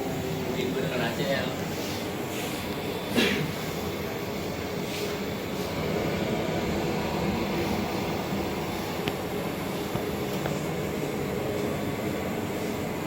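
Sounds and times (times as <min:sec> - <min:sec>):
ventilation fans whirring: 0:00.0 - 0:13.0.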